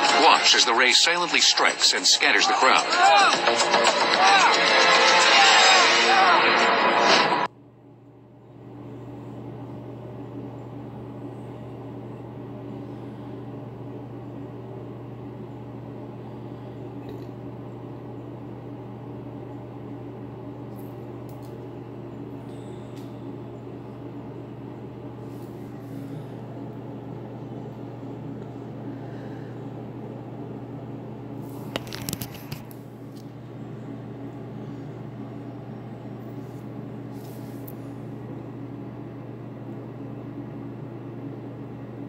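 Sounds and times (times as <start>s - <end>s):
steady low hum: 7.4s - 42.0s.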